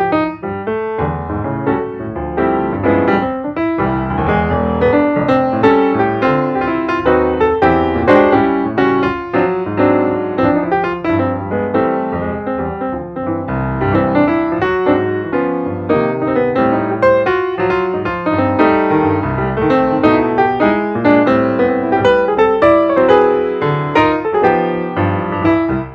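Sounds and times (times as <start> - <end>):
piano music: 0.0 - 25.9.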